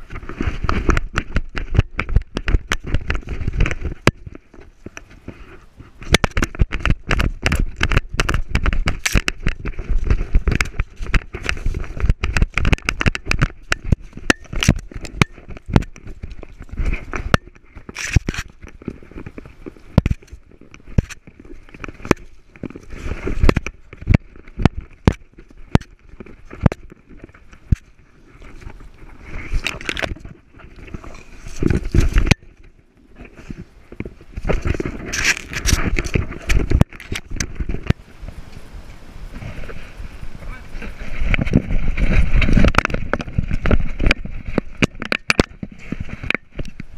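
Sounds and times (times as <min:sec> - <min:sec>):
leaves and brush crackling: 0:00.0 - 0:46.9.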